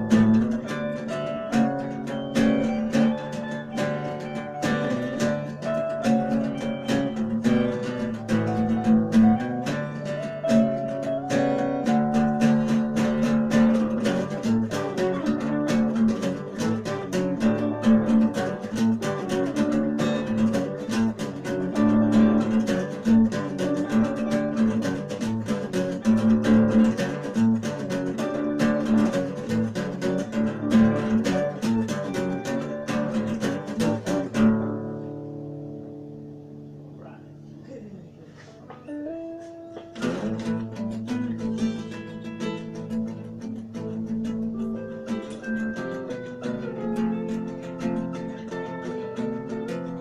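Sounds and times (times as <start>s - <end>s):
acoustic guitar music: 0.0s - 50.0s.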